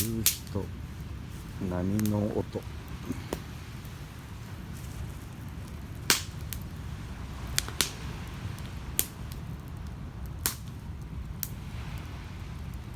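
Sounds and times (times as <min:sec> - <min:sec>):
burning wood popping: 0:00.0 - 0:12.9
campfire crackling: 0:00.0 - 0:12.9
waves on the shore: 0:00.0 - 0:12.9.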